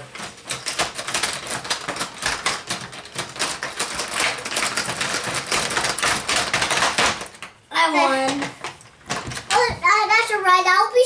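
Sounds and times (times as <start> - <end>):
plastic toy clicking and clacking: 0.0 - 9.8.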